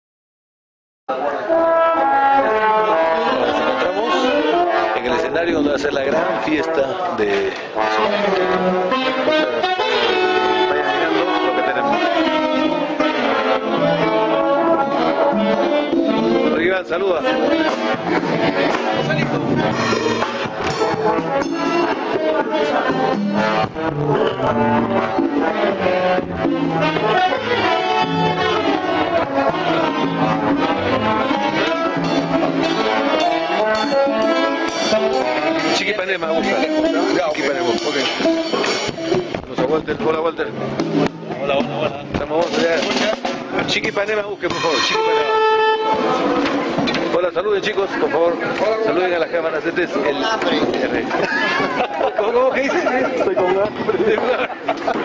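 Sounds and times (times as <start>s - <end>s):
dance orchestra playing: 1.1s - 51.6s
wind instruments holding notes: 1.1s - 55.0s
steady bass line: 1.3s - 55.0s
percussion strokes: 2.5s - 51.8s.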